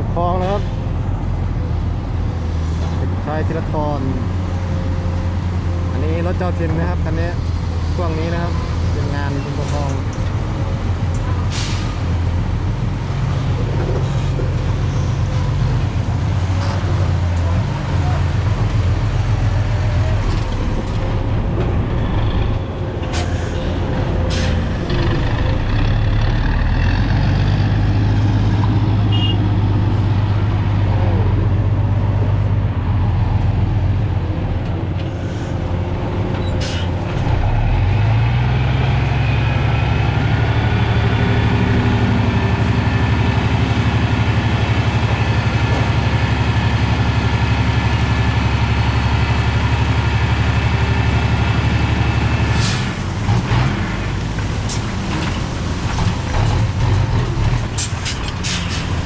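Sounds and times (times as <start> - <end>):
heavy truck engine running: 0.0 - 59.0.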